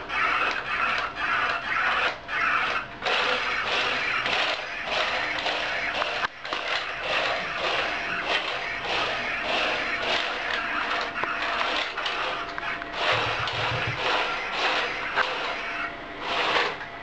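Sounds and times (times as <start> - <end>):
robot motors whirring: 0.1 - 16.8.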